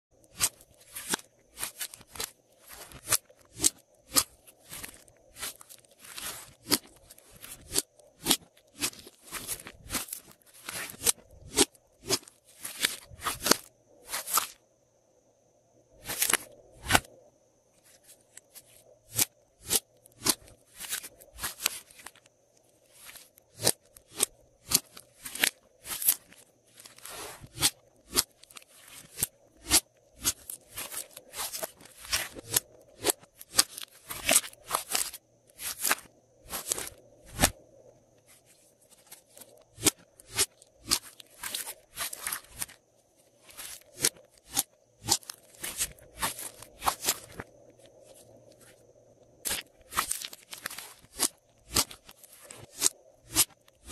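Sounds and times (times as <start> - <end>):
slime crackling and squelching: 0.3 - 14.6, 17.9 - 37.6, 38.3 - 42.8, 43.4 - 47.5, 49.4 - 53.9.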